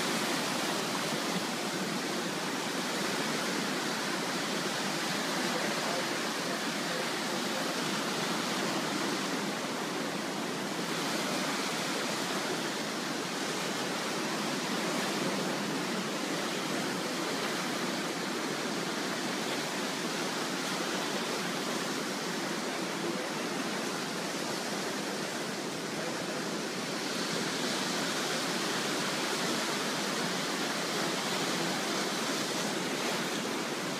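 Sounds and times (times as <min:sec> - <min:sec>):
waves breaking over rocks: 0:00.0 - 0:33.9.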